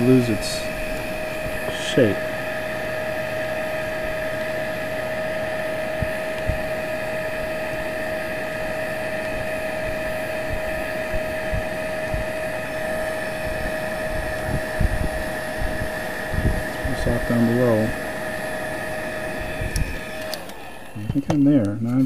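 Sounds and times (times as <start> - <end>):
heat gun blowing air: 0.0 - 21.2.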